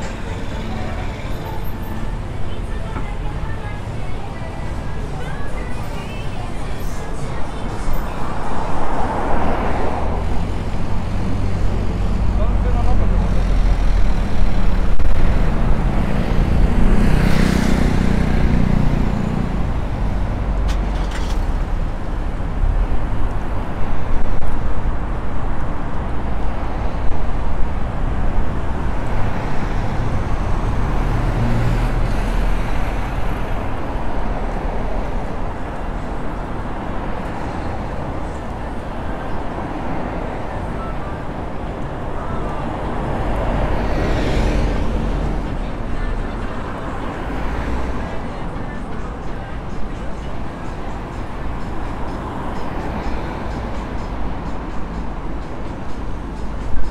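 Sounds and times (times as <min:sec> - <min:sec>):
cars driving past: 0:00.0 - 0:56.9.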